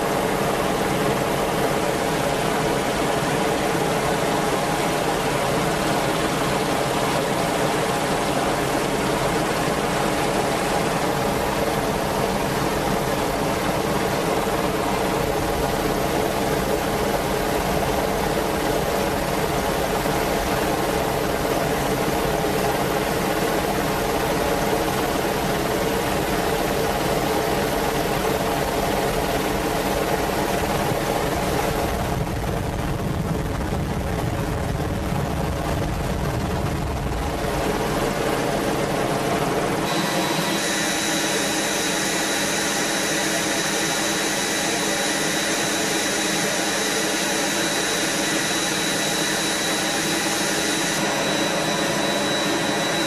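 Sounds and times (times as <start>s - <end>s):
helicopter engines and rotor: 0.0s - 53.0s
high-pitched turbine whine: 0.0s - 53.0s.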